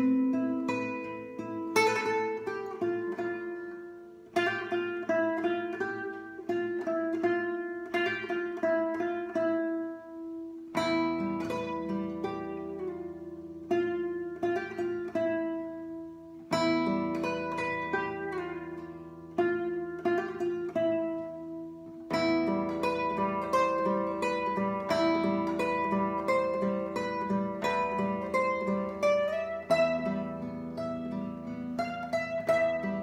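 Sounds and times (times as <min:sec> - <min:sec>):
classical guitar fingerpicked: 0:00.0 - 0:33.0.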